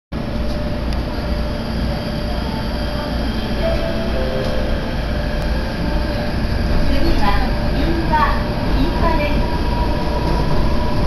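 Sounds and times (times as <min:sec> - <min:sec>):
electric train rumble: 0:00.2 - 0:11.0.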